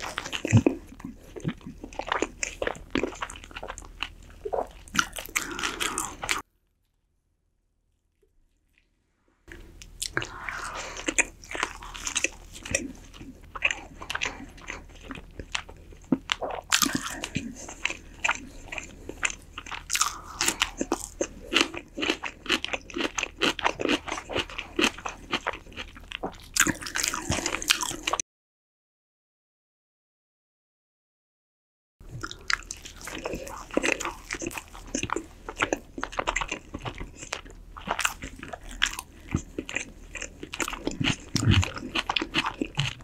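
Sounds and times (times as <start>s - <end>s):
crunchy chewing: 0.0s - 6.4s, 9.5s - 28.2s, 32.2s - 43.0s.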